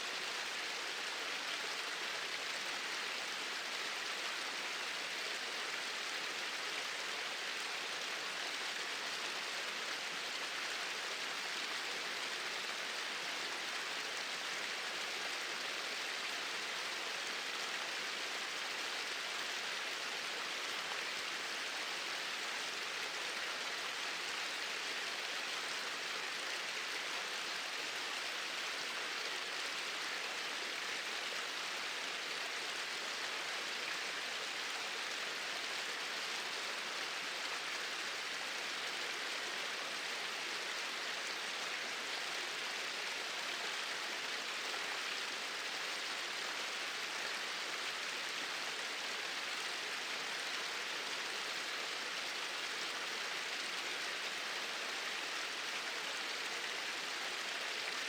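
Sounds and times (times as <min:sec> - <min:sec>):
small waterfall pouring: 0:00.1 - 0:58.0.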